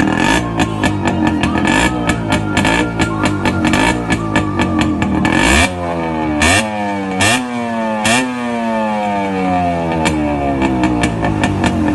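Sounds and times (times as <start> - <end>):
two-stroke motorcycle engine revving: 0.0 - 11.9.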